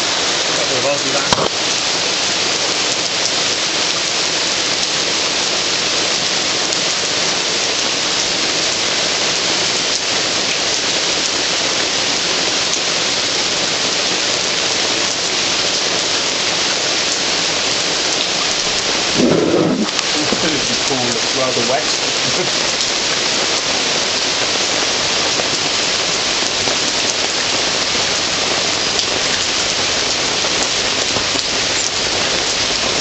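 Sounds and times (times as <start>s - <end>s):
heavy rain on hard surfaces: 0.0s - 33.0s.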